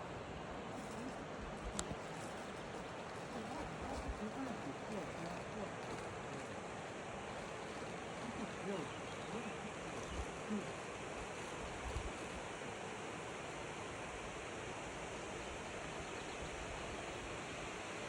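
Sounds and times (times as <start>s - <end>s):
steady rushing outdoor noise: 0.0s - 18.0s.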